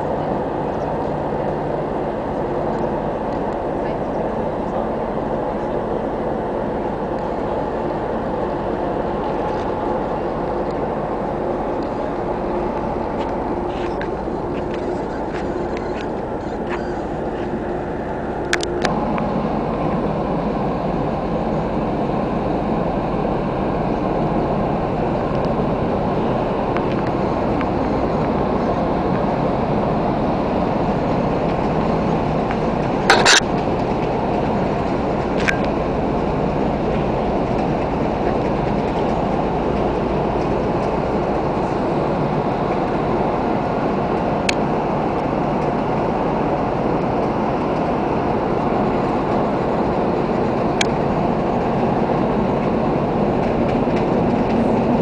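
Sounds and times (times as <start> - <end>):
ship engines droning: 0.0 - 55.0.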